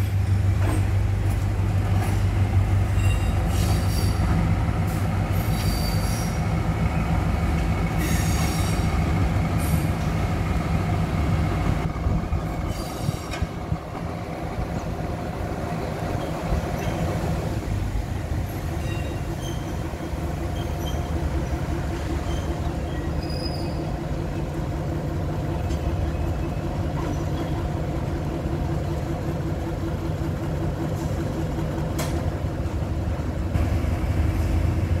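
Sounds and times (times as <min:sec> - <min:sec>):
diesel locomotive engine droning: 0:00.0 - 0:35.0.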